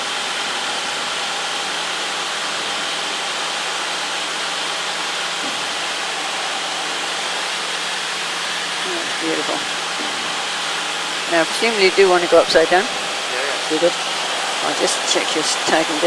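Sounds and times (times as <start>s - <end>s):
aircraft cockpit engine and airflow hiss: 0.0s - 16.0s
faint steady hum: 0.0s - 16.0s.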